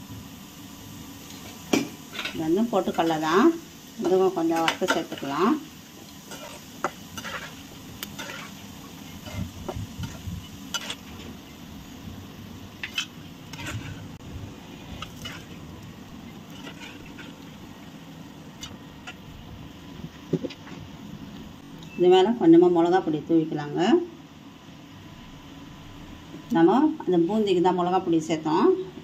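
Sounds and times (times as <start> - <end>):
food sizzling in hot oil: 0.0 - 29.0.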